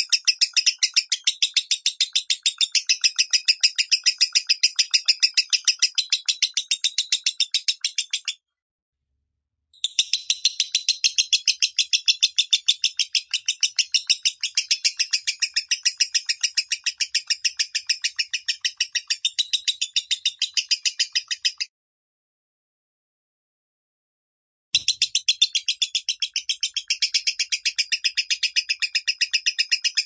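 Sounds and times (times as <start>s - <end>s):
lovebird chirping: 0.0s - 8.4s, 9.8s - 21.7s, 24.8s - 30.0s.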